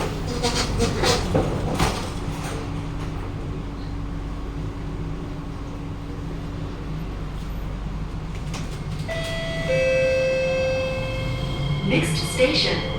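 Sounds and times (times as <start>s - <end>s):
metro train interior rumble: 0.0s - 12.9s.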